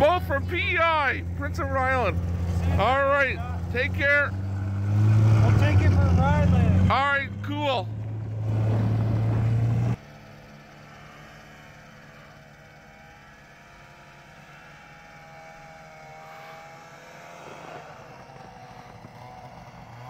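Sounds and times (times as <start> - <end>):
distant snowmobile engine drone: 0.0 - 20.0
snowmobile engine running close: 0.0 - 20.0.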